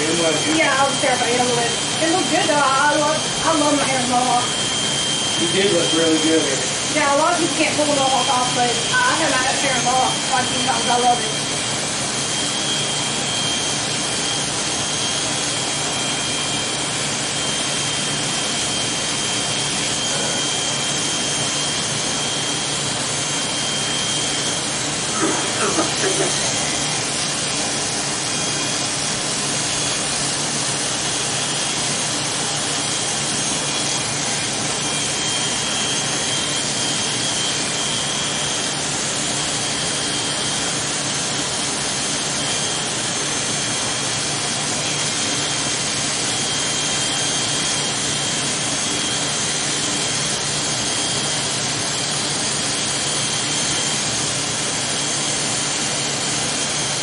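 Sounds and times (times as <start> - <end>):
electric hair clippers buzzing: 0.0 - 57.0.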